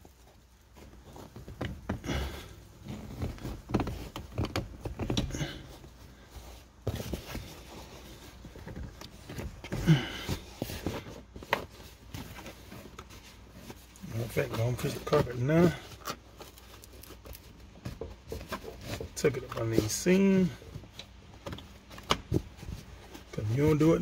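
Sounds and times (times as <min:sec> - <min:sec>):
carpet rustling and scraping: 0:00.0 - 0:24.0.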